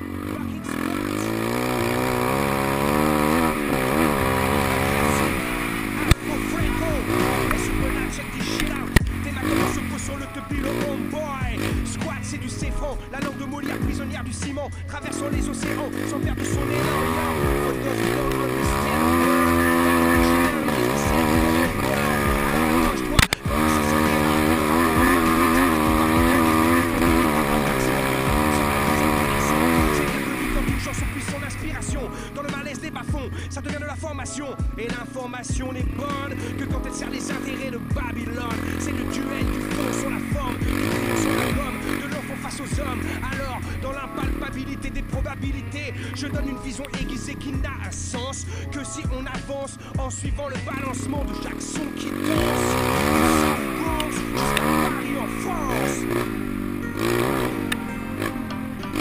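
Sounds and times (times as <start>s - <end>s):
pit bike engine revving: 0.0s - 59.0s.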